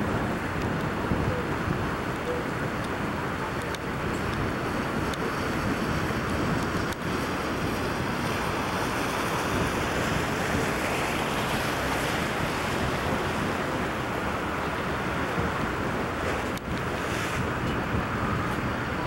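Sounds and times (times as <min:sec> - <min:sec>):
water washing along hull: 0:00.0 - 0:19.0
wind on microphone: 0:00.0 - 0:19.0.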